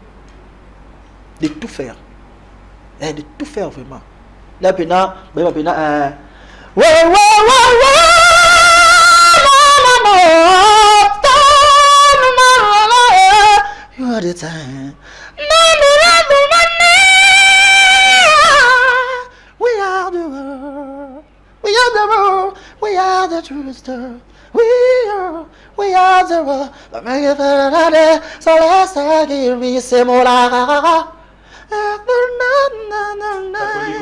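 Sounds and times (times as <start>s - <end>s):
man singing unaccompanied: 4.6s - 34.0s.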